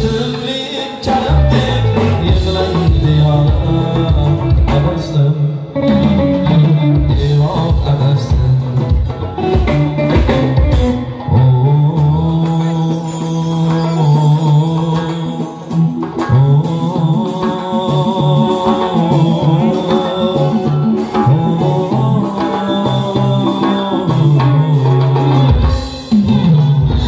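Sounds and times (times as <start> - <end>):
frame drums: 0.0 - 27.0
man singing: 0.0 - 27.0.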